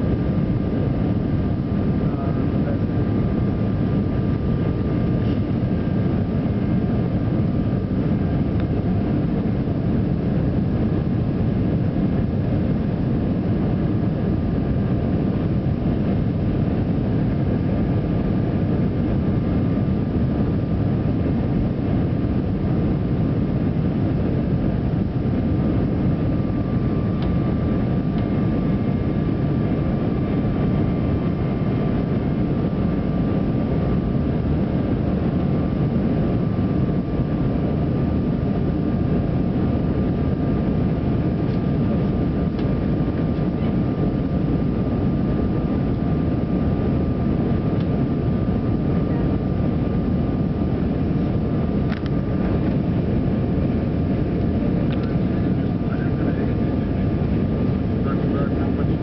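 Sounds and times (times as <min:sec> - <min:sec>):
jet engine drone: 0:00.0 - 0:59.0
thin steady whine: 0:00.0 - 0:59.0.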